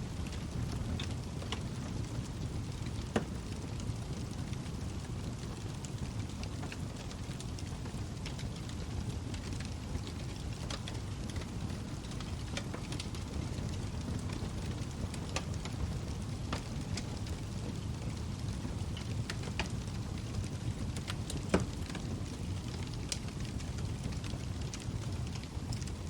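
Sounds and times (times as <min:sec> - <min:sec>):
burning wood crackling and popping: 0:00.0 - 0:26.0
flames rushing: 0:00.1 - 0:26.0.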